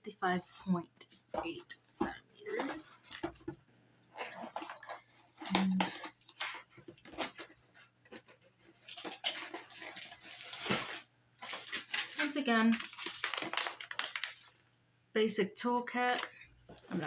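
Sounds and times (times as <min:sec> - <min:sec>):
paper and cardboard rustling: 0:00.5 - 0:14.6.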